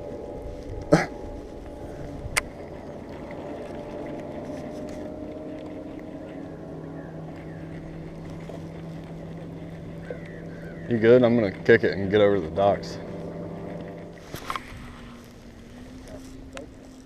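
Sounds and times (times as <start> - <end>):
outboard motor idling: 0.0 - 17.0.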